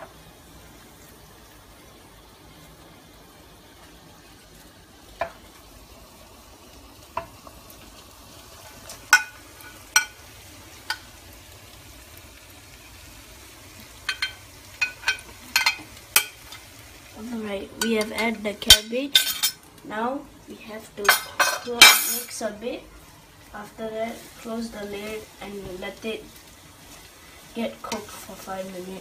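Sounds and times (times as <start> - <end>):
faint hiss from pan: 0.0 - 29.0.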